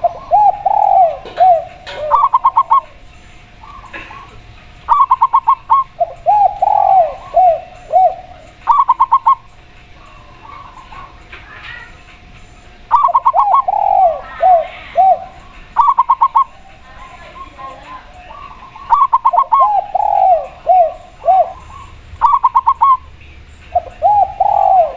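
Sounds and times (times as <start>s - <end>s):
dove low drawn-out coos: 0.0s - 12.0s, 12.8s - 24.9s
dove quick high cooing: 0.0s - 12.0s, 12.9s - 23.1s, 23.7s - 24.9s.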